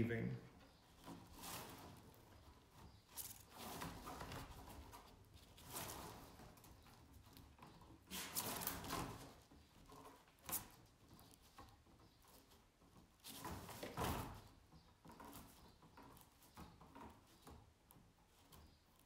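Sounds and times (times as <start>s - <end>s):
reed spokes rustling and scraping: 0.0s - 19.0s.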